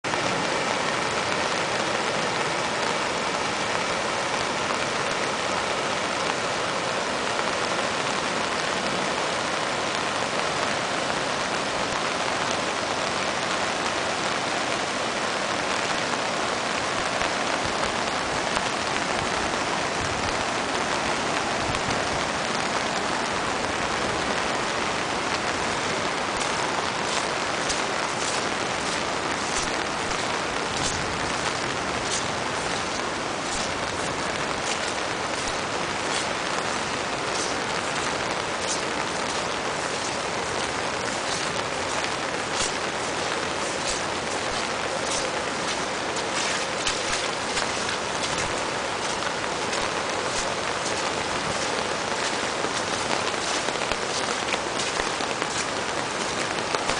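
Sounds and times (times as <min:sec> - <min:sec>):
flooded creek rushing: 0:00.0 - 0:56.9
heavy rain falling: 0:00.0 - 0:56.9.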